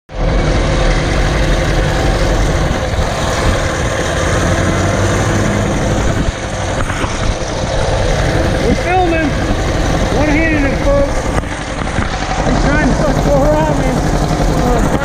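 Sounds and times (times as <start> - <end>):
small engine running: 0.1 - 15.0.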